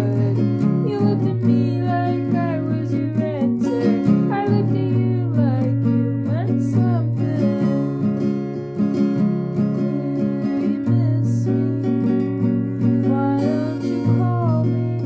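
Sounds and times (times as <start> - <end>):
person singing: 0.0 - 8.5, 9.4 - 15.0
acoustic guitar strumming chords: 0.0 - 15.0.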